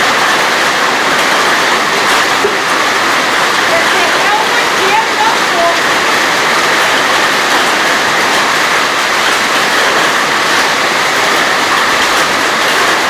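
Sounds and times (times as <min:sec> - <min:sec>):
hail and rain pelting down: 0:00.0 - 0:13.0.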